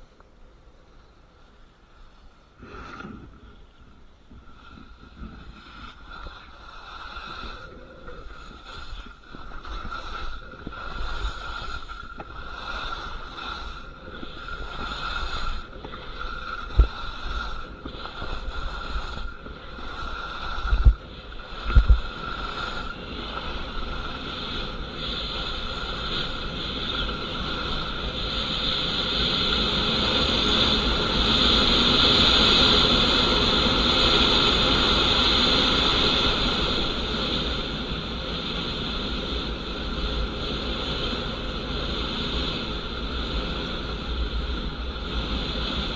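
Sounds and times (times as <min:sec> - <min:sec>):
skis scraping icy snow: 0:02.0 - 0:45.9
wind on microphone: 0:02.6 - 0:45.9.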